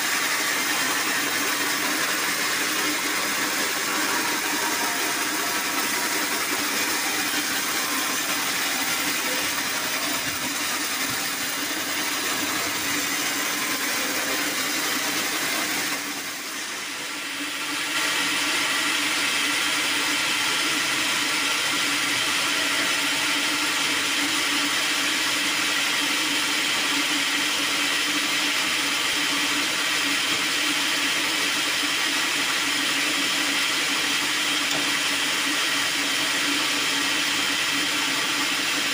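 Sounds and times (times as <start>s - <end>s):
band sawmill running: 0.0s - 38.9s
sawmill saw cutting wood: 0.0s - 38.9s.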